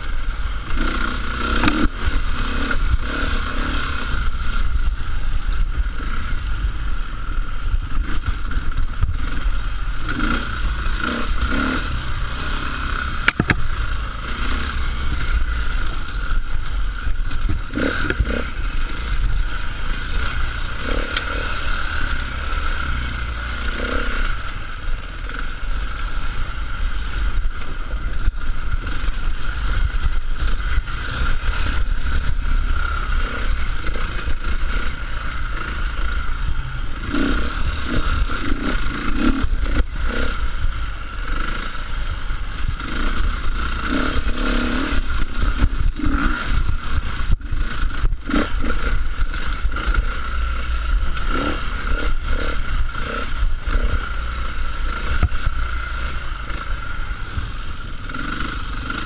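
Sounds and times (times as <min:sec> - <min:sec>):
bike rattling and clattering: 0:00.0 - 0:59.0
dirt bike engine running: 0:00.0 - 0:59.0.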